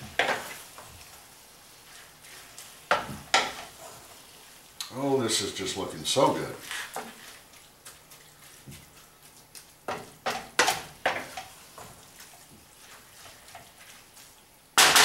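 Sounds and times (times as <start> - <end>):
wooden spoon scraping a skillet: 0.0 - 4.7, 6.5 - 15.0.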